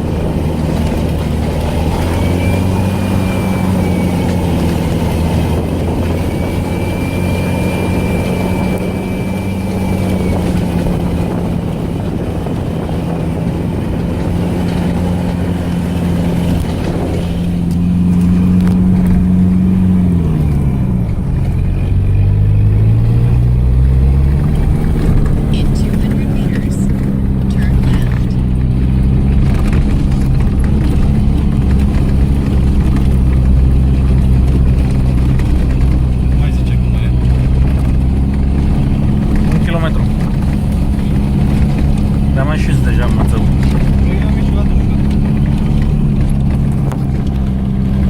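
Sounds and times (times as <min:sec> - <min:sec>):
off-road vehicle engine running: 0:00.0 - 0:48.0
rough rumbling noise: 0:00.0 - 0:48.0.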